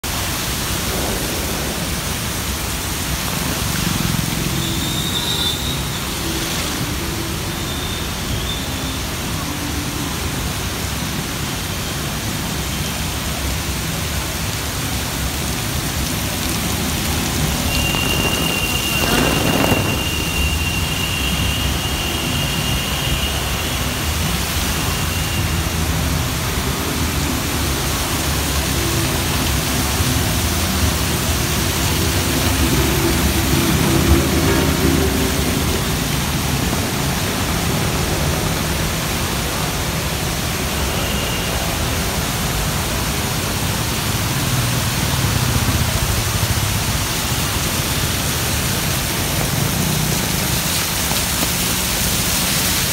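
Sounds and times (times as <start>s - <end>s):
heavy rain pouring: 0.0s - 52.9s
traffic driving through water: 0.1s - 52.9s.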